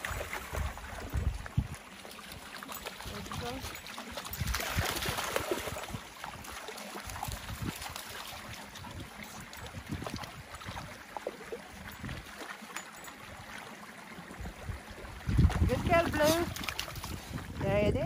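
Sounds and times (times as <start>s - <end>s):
dog splashing in water: 0.0s - 13.7s, 15.0s - 17.7s
shallow river water flowing: 0.0s - 18.0s.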